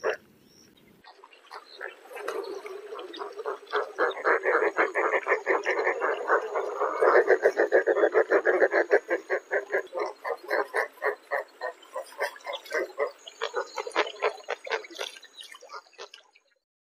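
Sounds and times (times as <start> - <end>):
bird grunting calls: 1.3 - 15.2.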